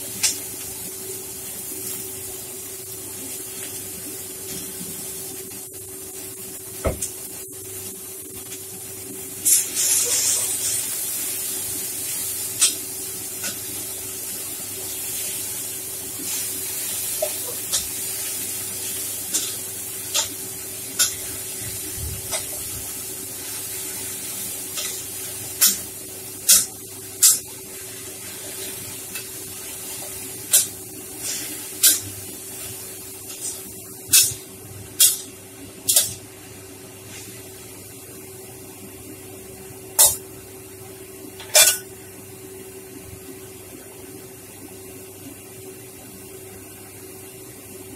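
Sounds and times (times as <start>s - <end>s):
vegetables sizzling in frying pan: 0.0s - 42.8s.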